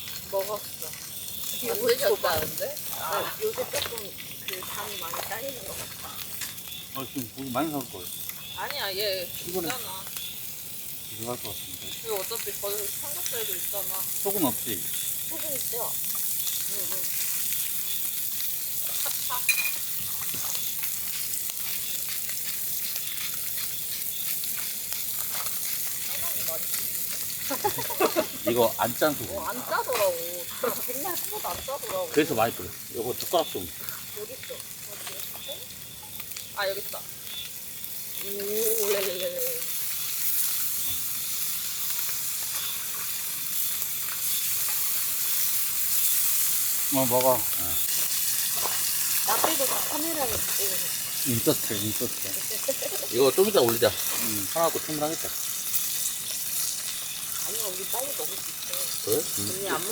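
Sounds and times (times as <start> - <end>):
meat sizzling on a grill: 0.0 - 59.9.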